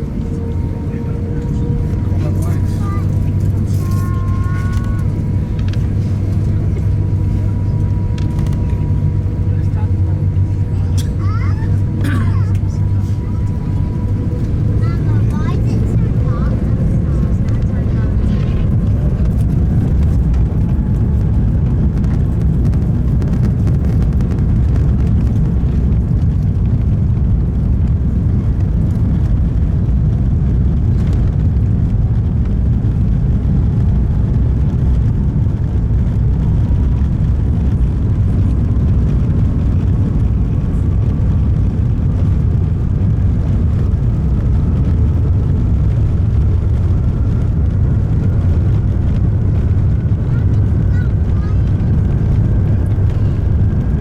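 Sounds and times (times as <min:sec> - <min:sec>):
jet engines and airflow rumble: 0:00.0 - 0:54.0.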